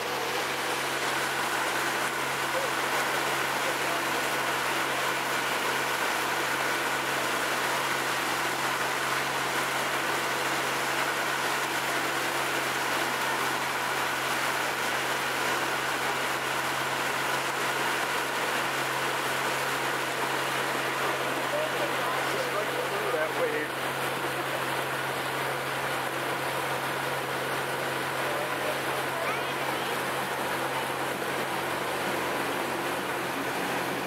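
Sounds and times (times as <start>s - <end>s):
motorboat engine humming: 0.0s - 34.0s.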